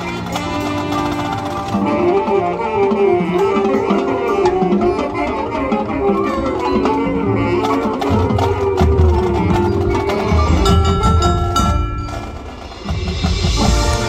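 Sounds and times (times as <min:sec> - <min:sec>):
marching band playing: 0:00.0 - 0:14.0.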